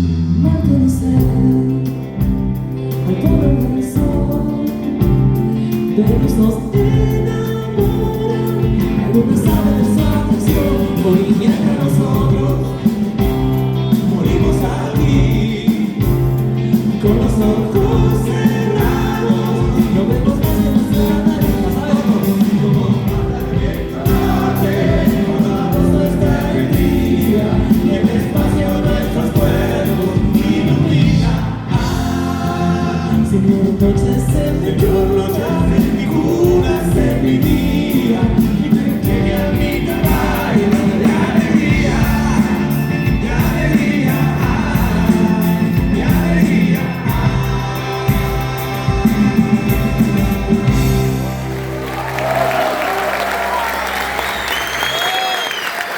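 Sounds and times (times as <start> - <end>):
voices singing together: 0.0 - 51.3
rock band playing loudly: 0.0 - 55.9.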